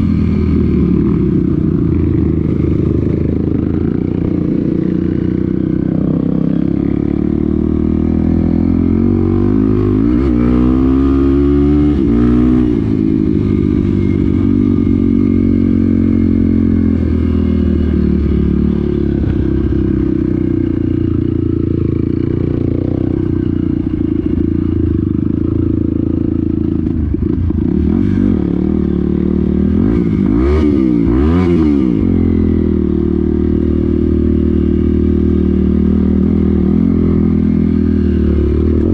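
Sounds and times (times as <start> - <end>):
off-road motorcycle engine revving: 0.0 - 38.9.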